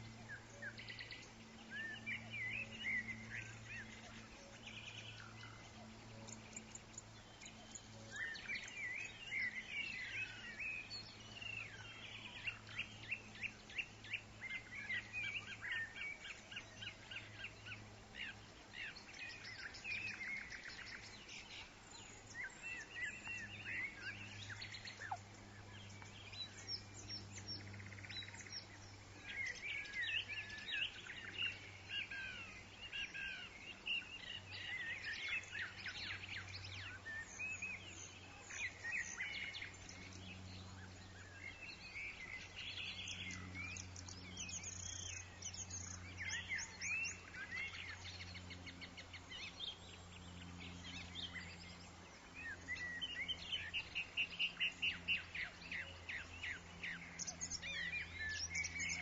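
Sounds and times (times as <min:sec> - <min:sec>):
bird pulsed trill: 0:00.0 - 0:59.0
songbirds chirping: 0:00.0 - 0:59.0.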